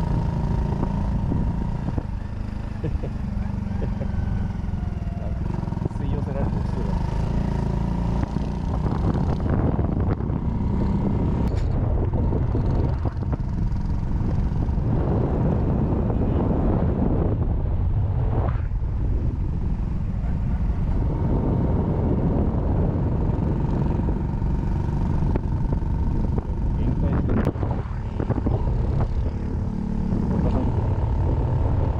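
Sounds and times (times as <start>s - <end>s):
wind noise on microphone: 0.0s - 2.3s, 5.3s - 31.9s
motorcycle engine running: 0.0s - 18.1s, 18.8s - 31.9s.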